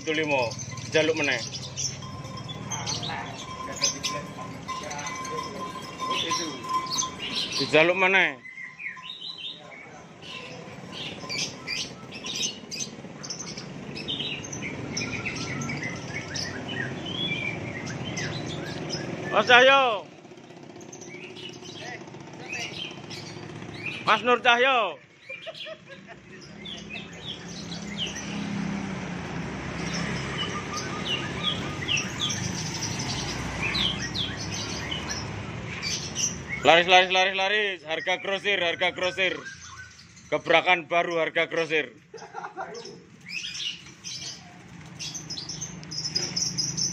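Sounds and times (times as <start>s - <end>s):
songbirds chirping and twittering: 0.0s - 46.9s.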